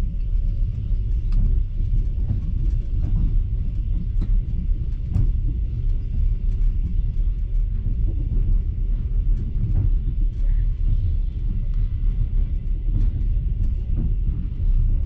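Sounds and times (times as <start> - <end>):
train carriage rumbling on rails: 0.0 - 15.0.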